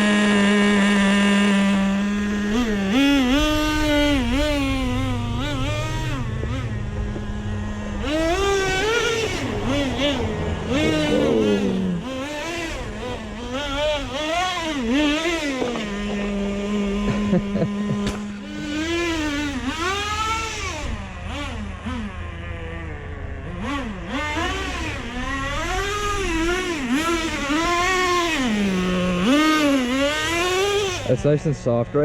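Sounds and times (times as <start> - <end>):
small nitro engine revving: 0.0 - 32.0.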